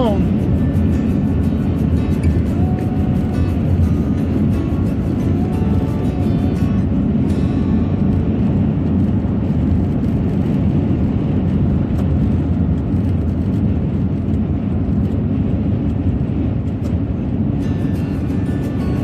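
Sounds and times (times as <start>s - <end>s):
road and engine drone inside van: 0.0s - 19.0s.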